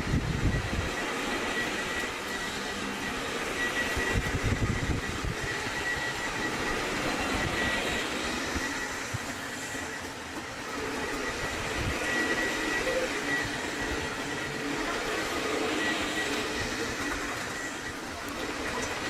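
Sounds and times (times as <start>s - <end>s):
robot vacuum motor running: 0.0s - 19.0s.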